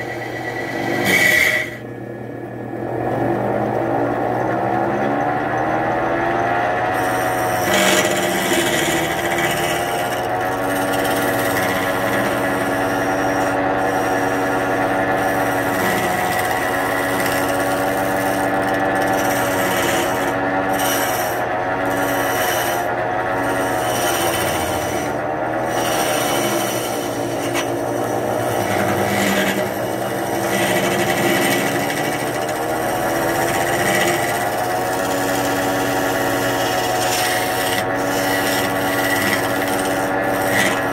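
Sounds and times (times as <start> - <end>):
gouge scraping spinning wood: 0.0 - 1.9, 4.6 - 40.9
wood lathe motor hum: 0.0 - 40.9.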